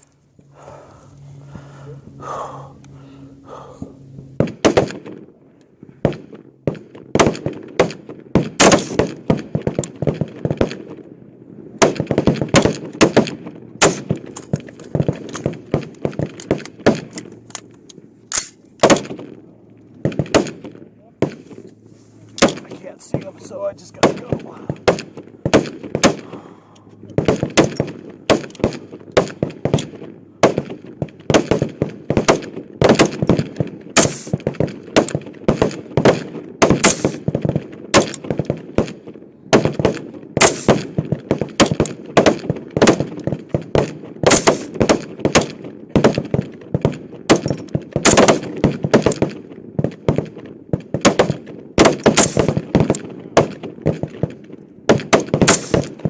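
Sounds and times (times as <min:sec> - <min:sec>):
rifle shots cracking: 0:04.4 - 0:05.3, 0:06.0 - 0:11.0, 0:11.8 - 0:17.7, 0:18.3 - 0:19.4, 0:20.0 - 0:21.6, 0:22.4 - 0:23.3, 0:23.9 - 0:26.5, 0:27.1 - 0:56.0.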